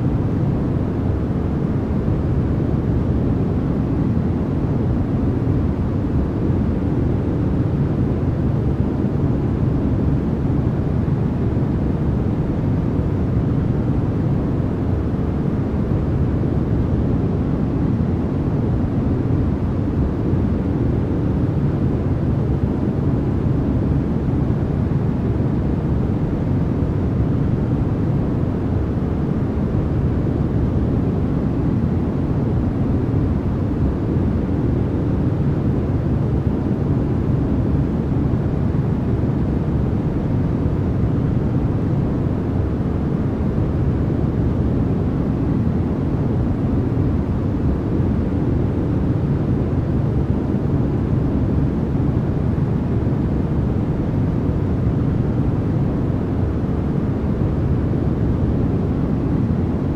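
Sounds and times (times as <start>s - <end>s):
low steady white noise: 0.0s - 59.9s.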